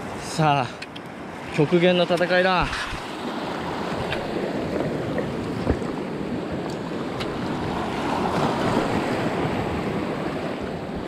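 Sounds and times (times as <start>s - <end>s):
small waves washing over reef: 0.0s - 11.0s.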